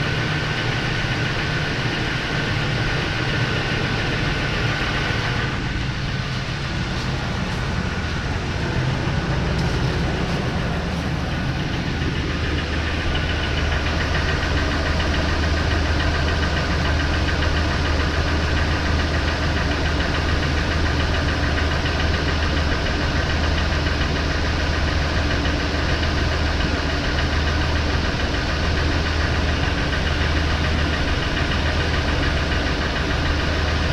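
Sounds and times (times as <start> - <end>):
engine idling with knocking: 0.0 - 33.9.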